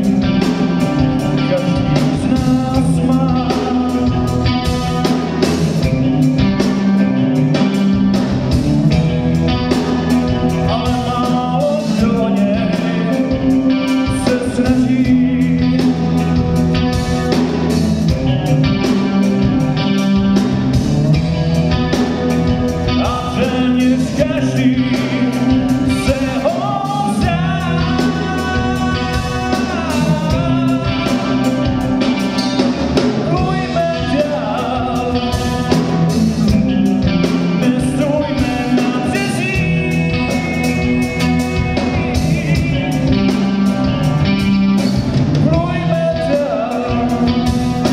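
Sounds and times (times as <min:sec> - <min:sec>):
hard rock band playing: 0:00.0 - 0:47.9.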